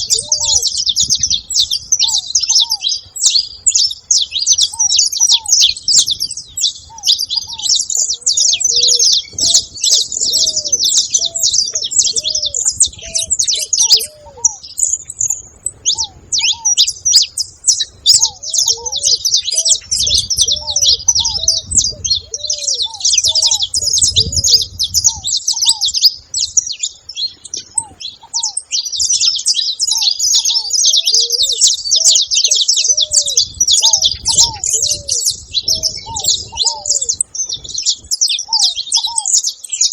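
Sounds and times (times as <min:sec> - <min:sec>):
low cooing: 0:00.0 - 0:03.0, 0:04.1 - 0:26.0, 0:27.6 - 0:28.6, 0:30.0 - 0:39.4
finches chirping and trilling: 0:00.0 - 0:39.9.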